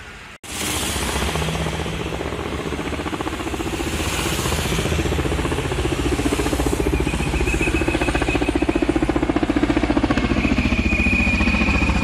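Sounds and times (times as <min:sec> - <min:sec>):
engine running with rapid pulse: 0:00.5 - 0:12.0.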